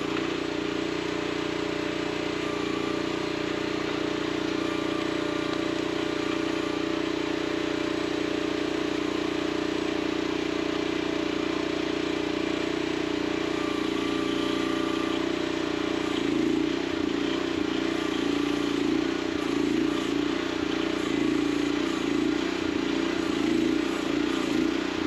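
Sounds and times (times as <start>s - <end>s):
mini excavator engine running: 0.0s - 25.0s.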